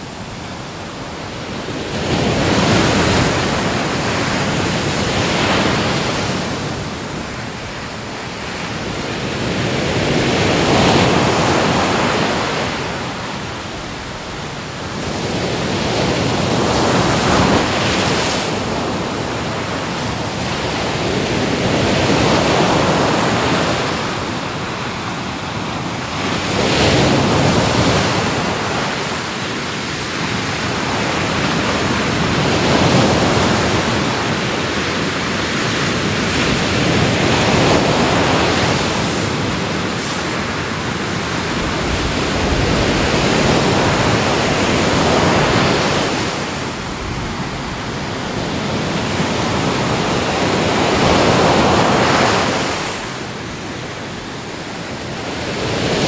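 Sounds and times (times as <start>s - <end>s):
ocean waves breaking on shore: 0.0s - 56.0s
wind noise: 0.0s - 56.0s.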